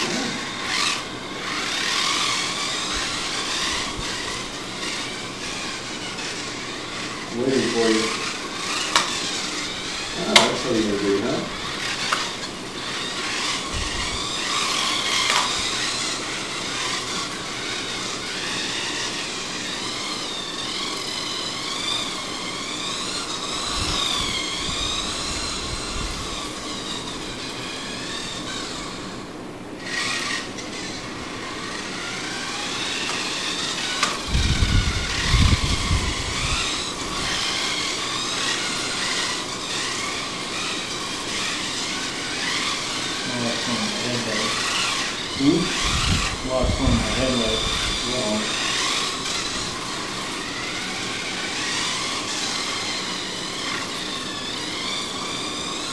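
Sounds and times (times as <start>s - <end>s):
electric toy car motors whining: 0.0s - 55.9s.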